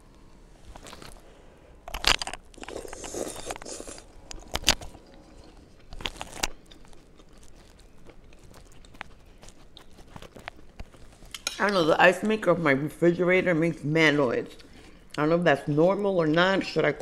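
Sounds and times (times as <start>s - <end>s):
chewing with crunches: 0.1s - 1.3s, 1.9s - 11.5s, 14.1s - 17.0s.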